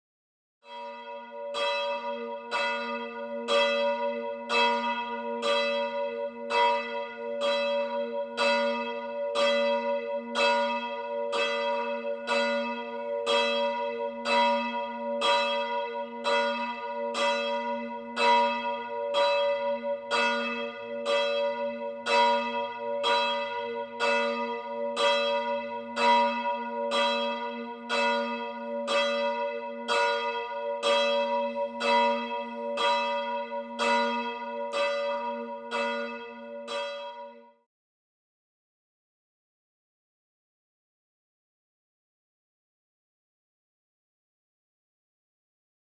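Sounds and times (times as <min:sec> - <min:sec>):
church bell ringing: 0:00.6 - 0:37.6.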